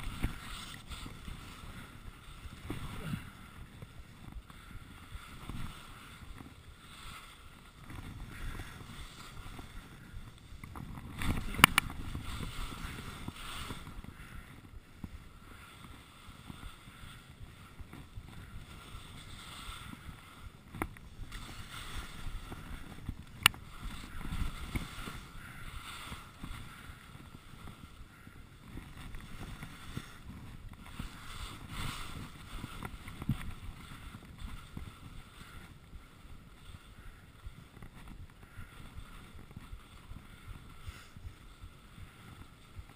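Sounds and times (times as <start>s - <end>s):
skis scraping over snow: 0.0s - 42.9s
wind rushing over microphone: 0.0s - 42.9s.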